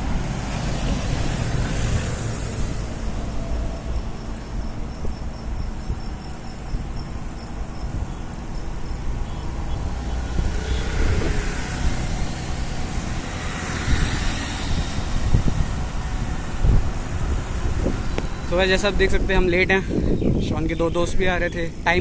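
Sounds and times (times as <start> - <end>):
motor scooter passing: 0.0 - 19.1
road traffic: 0.0 - 22.0
wind rumble on microphone: 0.0 - 22.0.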